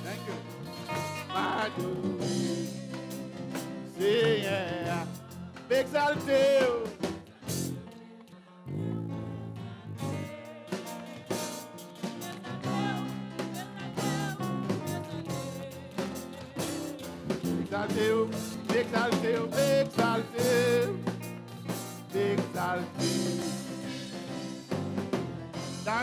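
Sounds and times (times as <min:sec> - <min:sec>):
organ: 0:00.0 - 0:07.8, 0:09.9 - 0:26.0
drums: 0:00.0 - 0:07.9, 0:09.9 - 0:26.0
people singing: 0:00.0 - 0:24.6.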